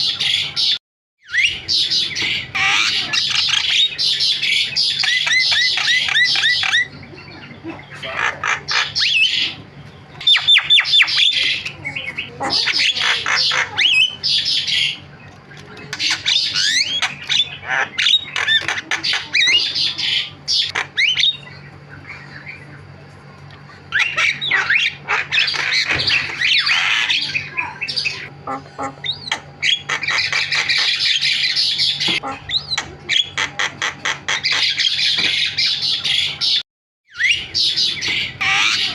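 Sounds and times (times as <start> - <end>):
myna bird chattering: 0.0 - 36.6, 37.2 - 38.9.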